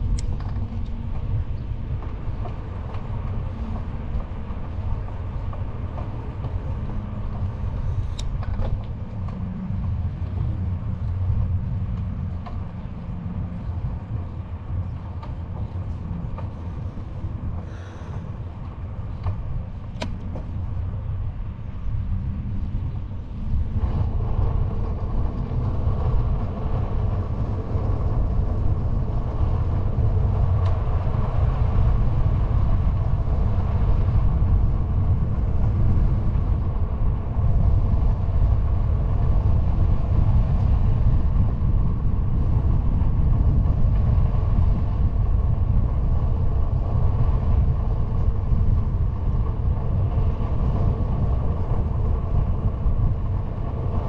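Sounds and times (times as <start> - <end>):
bike tyre humming on asphalt: 0.0 - 54.0
wind on microphone: 0.0 - 54.0.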